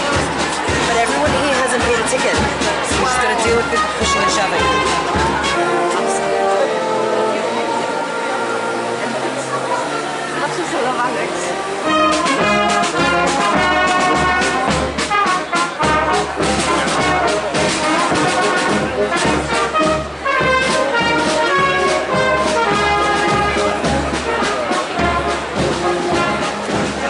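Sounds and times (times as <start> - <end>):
steady drum beat: 0.0 - 6.2, 11.0 - 27.0
brass band playing: 0.0 - 27.0.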